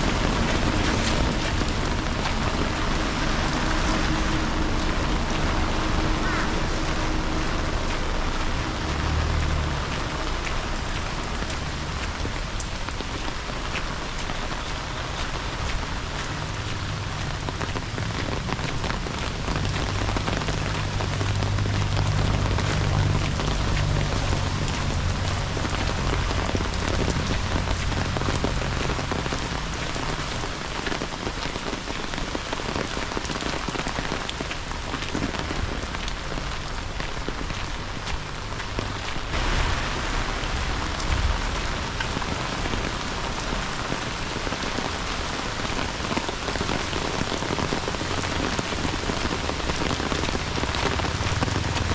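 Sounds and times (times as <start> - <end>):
raindrops ticking on hard surfaces: 0.0 - 51.9
steady rain falling: 0.0 - 51.9.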